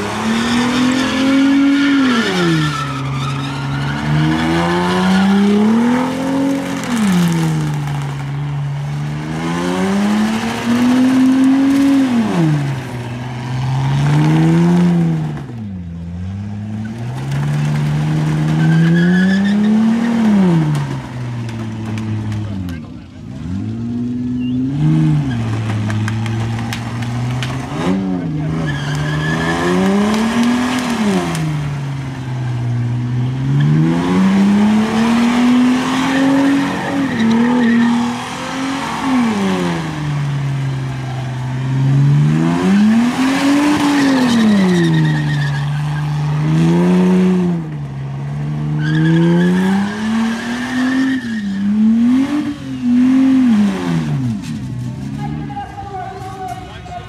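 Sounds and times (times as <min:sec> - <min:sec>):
car engine revving hard: 0:00.0 - 0:03.0, 0:03.8 - 0:21.2, 0:21.9 - 0:54.4
spinning tyres scrubbing and squealing: 0:00.0 - 0:57.0.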